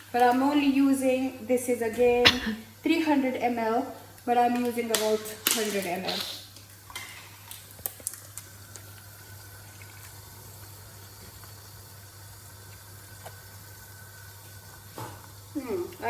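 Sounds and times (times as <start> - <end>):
curry simmering in pot: 2.6 - 16.0.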